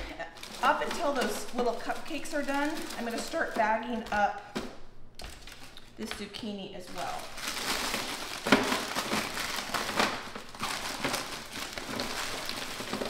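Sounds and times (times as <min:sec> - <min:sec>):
parchment paper crinkling: 0:00.0 - 0:13.0.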